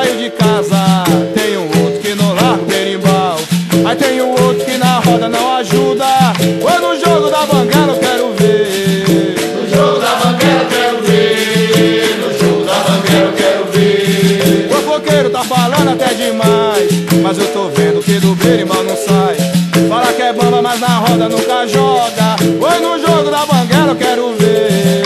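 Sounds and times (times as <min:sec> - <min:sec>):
berimbaus playing: 0:00.0 - 0:25.0
percussion rhythm: 0:00.0 - 0:25.0
shaker rattles: 0:00.0 - 0:25.0.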